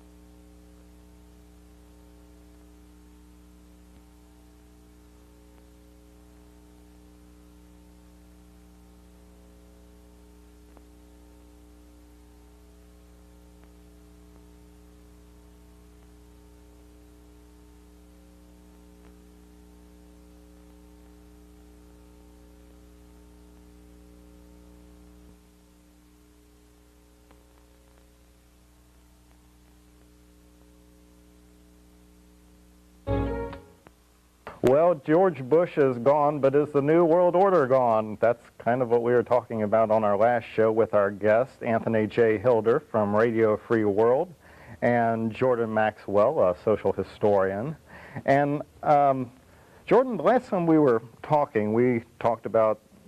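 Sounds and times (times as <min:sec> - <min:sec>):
constant hiss: 0:00.0 - 0:53.0
faint electrical hum: 0:00.0 - 0:53.0.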